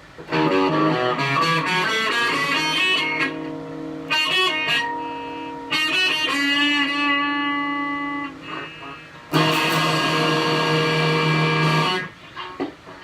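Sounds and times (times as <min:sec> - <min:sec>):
electric guitar notes and chords: 0:00.1 - 0:13.0.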